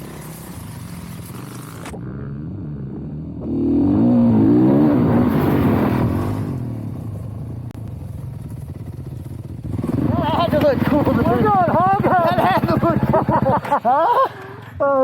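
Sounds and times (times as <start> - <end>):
dirt bike engine revving: 0.0 - 7.1, 8.9 - 14.0.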